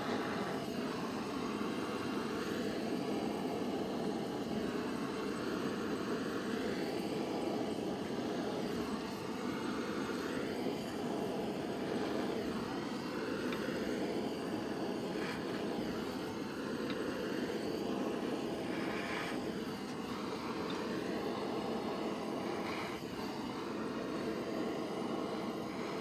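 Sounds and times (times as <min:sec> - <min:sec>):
blowtorch flame burning: 0:00.0 - 0:26.0.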